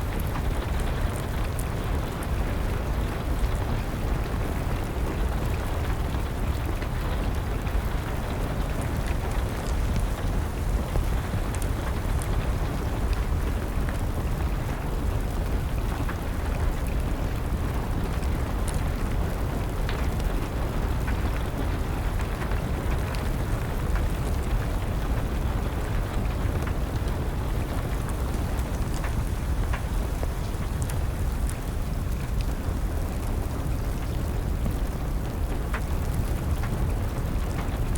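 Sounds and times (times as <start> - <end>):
steady rain: 0.0 - 37.9
wood fire crackling: 0.0 - 37.9.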